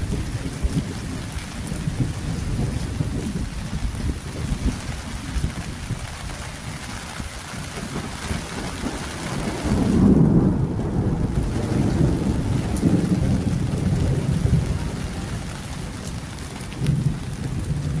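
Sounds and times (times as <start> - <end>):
low rolling rumble: 0.0 - 18.0
rain falling: 0.0 - 18.0.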